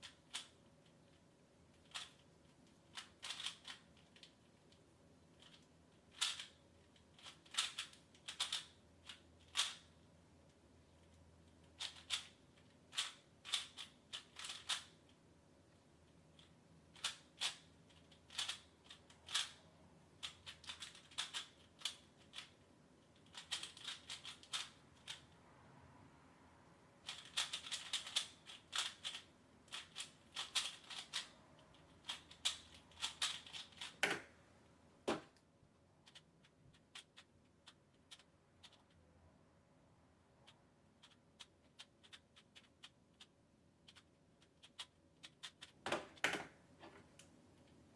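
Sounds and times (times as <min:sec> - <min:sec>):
puzzle cube plastic layers clicking: 0:00.0 - 0:10.0, 0:10.9 - 0:15.2, 0:16.0 - 0:25.3, 0:27.0 - 0:34.4, 0:36.0 - 0:39.0, 0:40.4 - 0:47.8.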